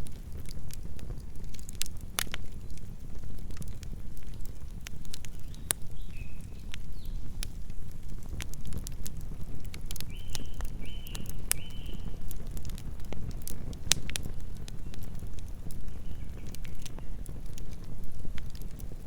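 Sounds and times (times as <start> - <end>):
campfire crackling and popping: 0.0 - 19.0
low steady fire rumble: 0.0 - 19.0.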